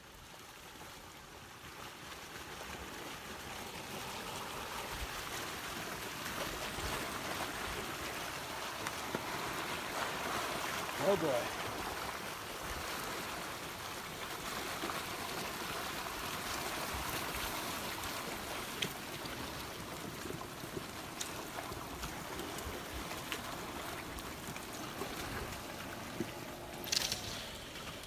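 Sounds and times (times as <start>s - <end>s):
floodwater rushing: 0.0s - 28.0s.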